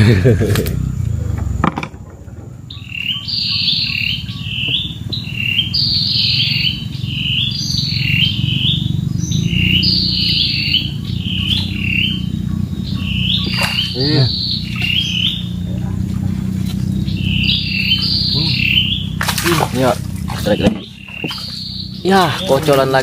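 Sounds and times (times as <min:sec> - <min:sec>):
low rumble: 0:00.0 - 0:23.0
bird chirping: 0:00.9 - 0:23.0.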